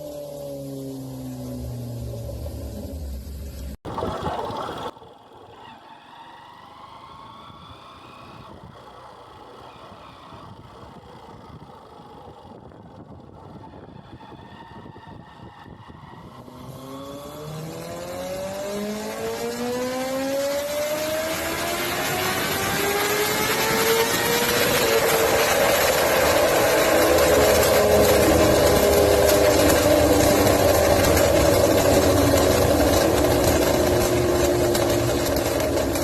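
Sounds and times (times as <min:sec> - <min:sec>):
motorcycle engine accelerating: 0:00.0 - 0:03.8, 0:04.6 - 0:36.0.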